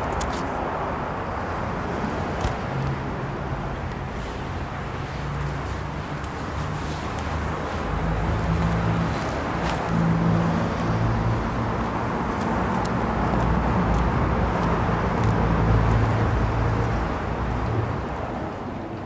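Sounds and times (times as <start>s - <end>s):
road noise: 0.0s - 19.0s
vehicle engine hum: 0.0s - 19.0s.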